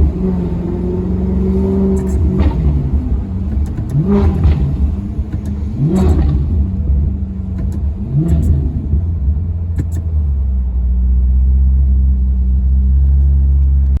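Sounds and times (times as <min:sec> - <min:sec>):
exhaust cracks: 0:00.0 - 0:11.9
car engine revving and idling: 0:00.0 - 0:14.0.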